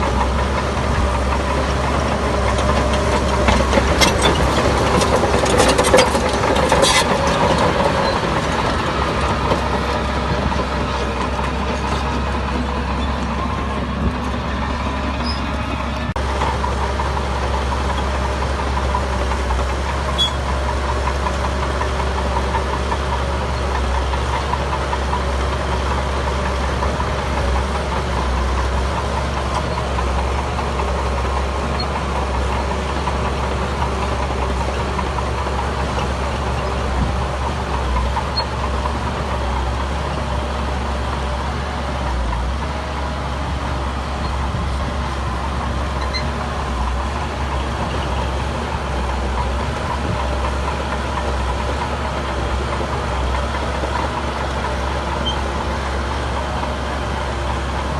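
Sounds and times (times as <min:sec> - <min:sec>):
construction machinery diesel engine running: 0:00.0 - 0:57.9.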